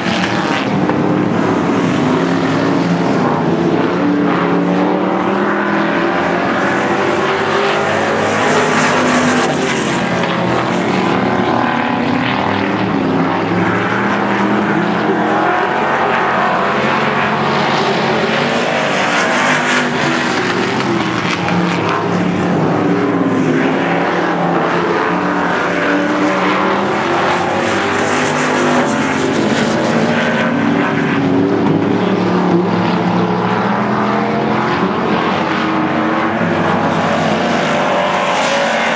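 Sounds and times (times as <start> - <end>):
race car engines at high revs: 0.0 - 38.9.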